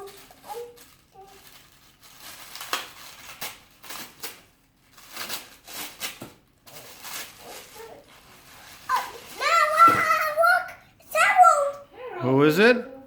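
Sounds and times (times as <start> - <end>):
packing paper rustling: 0.0 - 10.6.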